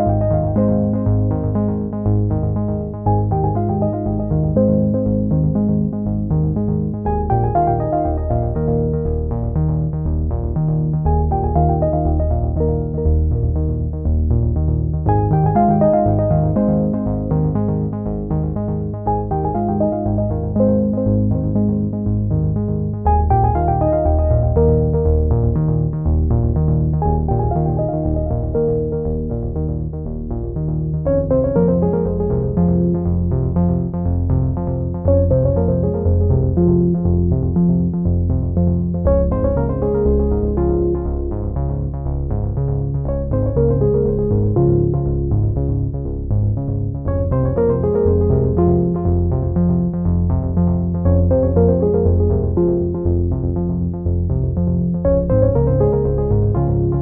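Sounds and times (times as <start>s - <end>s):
keyboard notes: 0.0s - 10.0s, 11.0s - 14.0s, 15.0s - 30.3s, 31.0s - 42.0s, 46.9s - 57.0s
bass line: 0.0s - 57.0s.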